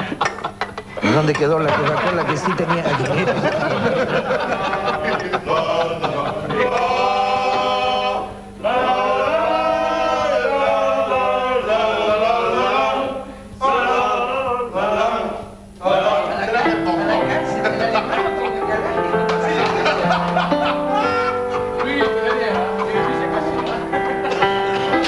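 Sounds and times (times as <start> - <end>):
men singing in chorus: 3.6 - 25.0.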